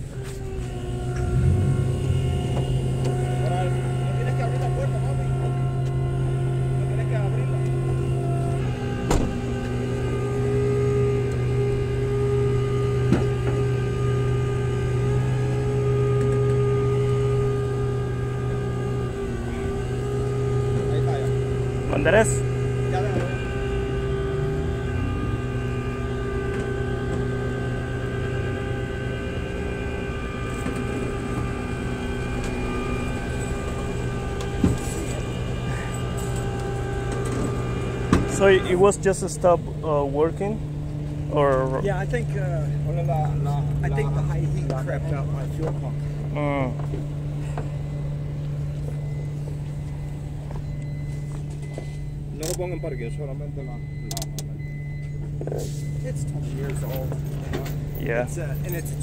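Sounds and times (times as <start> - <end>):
truck engine and winch humming: 0.0 - 59.0.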